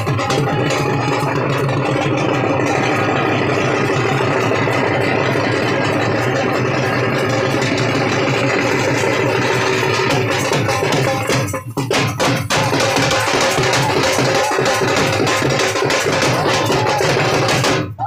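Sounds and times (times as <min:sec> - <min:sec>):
drums playing fast roll: 0:00.0 - 0:18.0.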